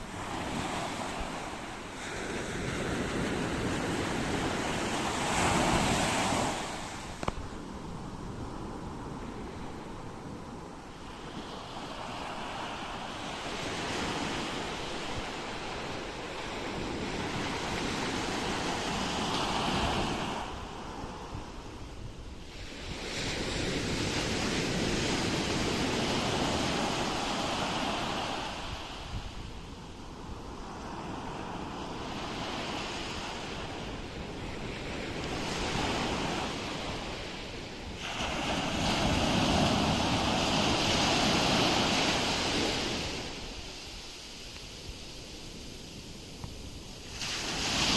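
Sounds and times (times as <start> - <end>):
ocean waves breaking on shore: 0.0 - 47.9.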